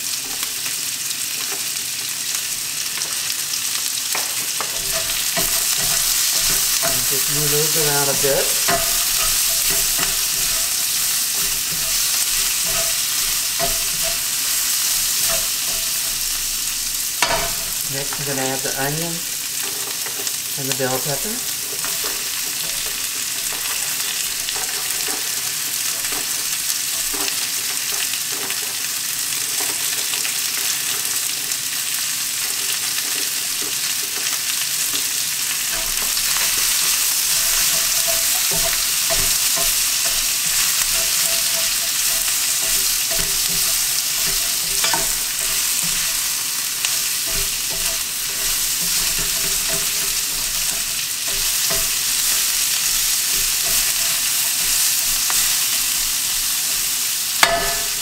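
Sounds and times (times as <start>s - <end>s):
vegetables sizzling in oil: 0.0s - 58.0s
spatula scraping a pan: 4.3s - 58.0s.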